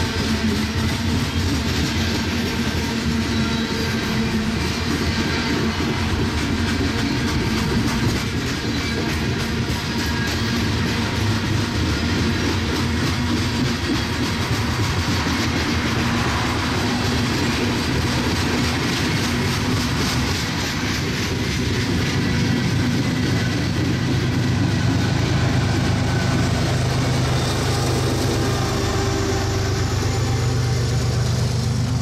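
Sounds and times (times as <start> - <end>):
diesel locomotive engine hum: 0.0 - 32.0
train wheel clatter: 0.0 - 32.0.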